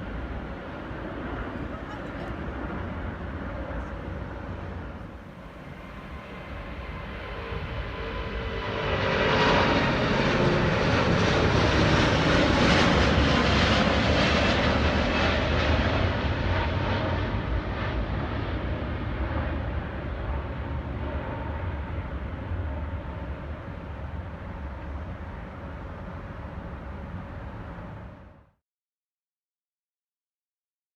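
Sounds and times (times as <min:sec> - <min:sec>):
jet airliner taking off: 0:00.0 - 0:28.5.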